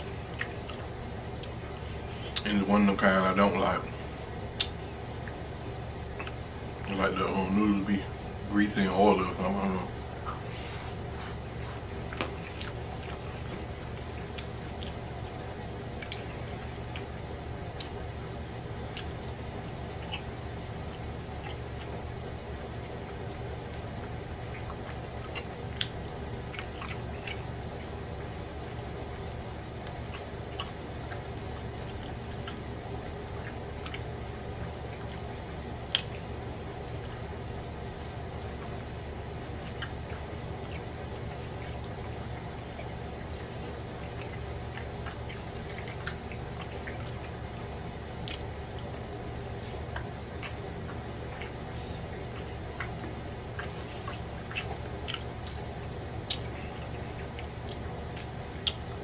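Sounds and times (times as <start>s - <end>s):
lip smacks: 0.0s - 2.5s, 3.8s - 7.0s, 10.2s - 59.0s
man chewing wetly: 0.0s - 8.5s, 9.2s - 59.0s
steady low hum: 0.0s - 59.0s.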